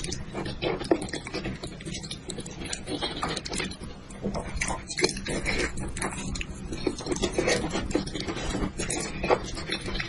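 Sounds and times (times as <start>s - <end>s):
chewing and lip-smacking: 0.0s - 10.0s.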